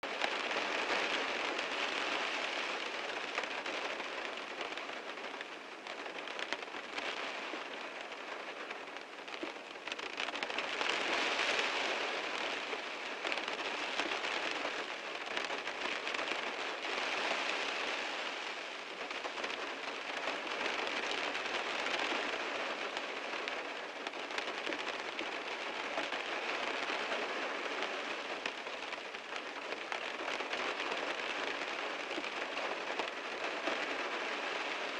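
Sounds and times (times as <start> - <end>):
rain drumming on car roof: 0.0 - 34.9.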